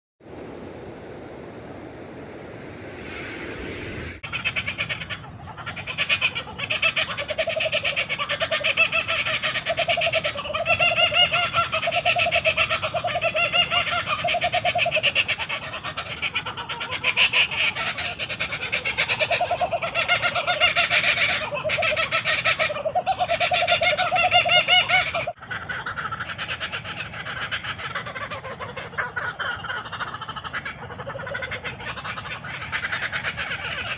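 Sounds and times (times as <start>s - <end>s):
kookaburra laughing call: 4.2s - 33.9s.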